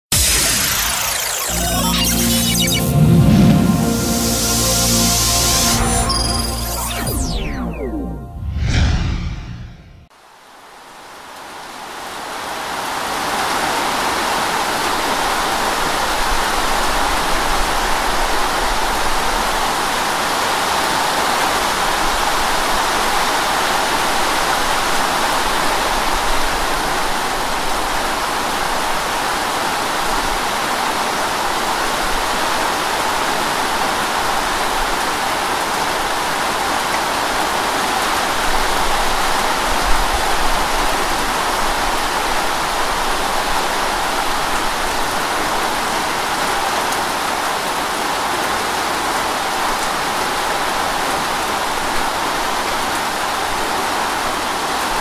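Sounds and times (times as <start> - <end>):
heavy rain: 10.2 - 55.0.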